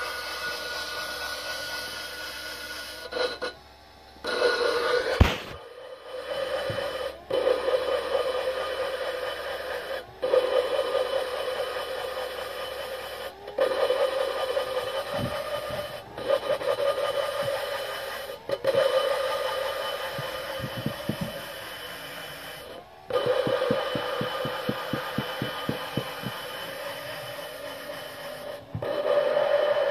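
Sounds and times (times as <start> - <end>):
electric drill whining: 4.2 - 29.9
gritty rubbing of valve: 4.2 - 29.9.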